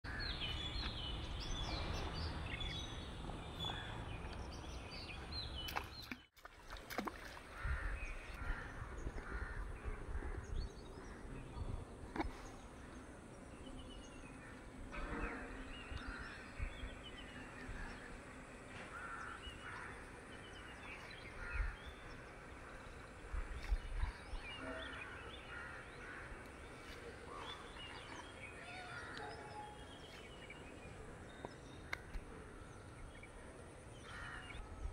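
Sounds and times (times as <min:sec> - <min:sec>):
birds calling and chirping: 0:00.0 - 0:06.3, 0:07.2 - 0:34.9.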